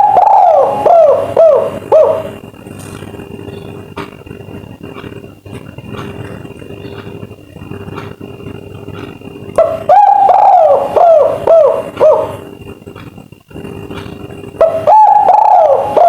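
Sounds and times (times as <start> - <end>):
dove cooing: 0.0 - 16.0
steady background noise: 0.0 - 16.0.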